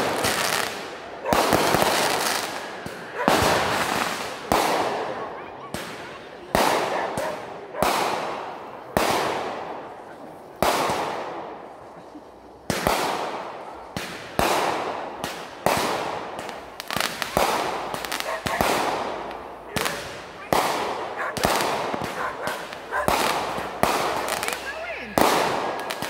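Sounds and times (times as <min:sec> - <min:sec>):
fireworks bangs with echo: 0:00.0 - 0:11.8, 0:12.6 - 0:26.0.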